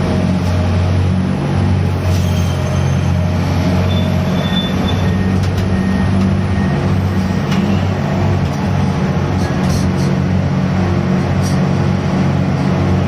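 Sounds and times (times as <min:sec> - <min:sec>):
ship engine and crane droning: 0:00.0 - 0:13.0.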